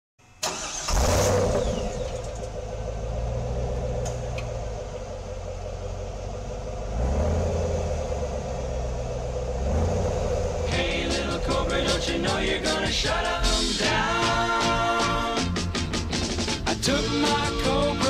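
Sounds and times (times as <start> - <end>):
car engine starting and idling: 0.2 - 18.0
engine revving: 0.4 - 18.0.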